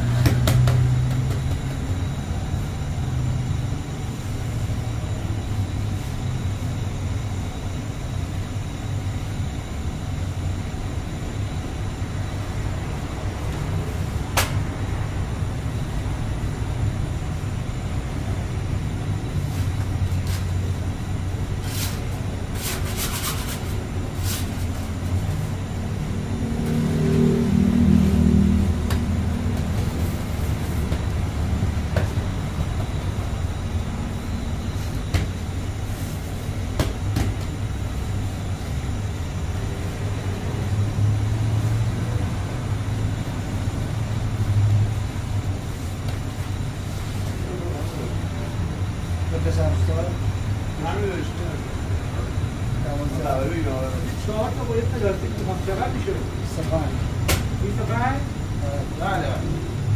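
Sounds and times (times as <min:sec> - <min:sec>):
bakery machine rumble: 0:00.0 - 0:59.9.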